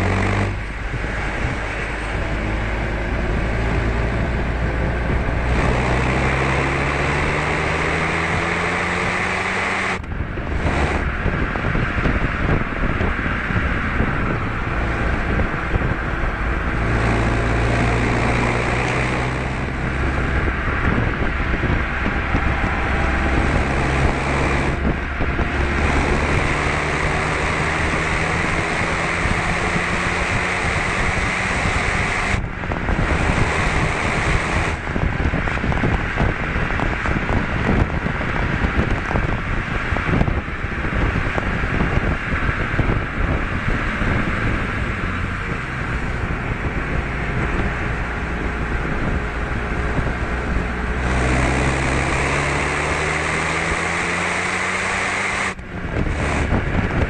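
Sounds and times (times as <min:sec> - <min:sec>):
car engine accelerating hard: 0:00.0 - 0:57.0
wind and road noise: 0:00.0 - 0:57.0.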